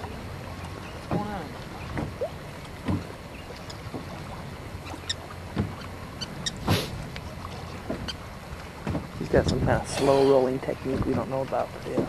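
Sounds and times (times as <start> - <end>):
choppy water against hull: 0.0 - 12.0
light clicks and knocks on boat: 0.0 - 12.0
wind: 0.0 - 12.0.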